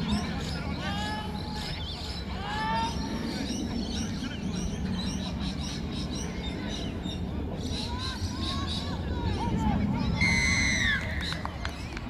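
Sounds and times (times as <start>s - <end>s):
distant voices: 0.0s - 12.0s.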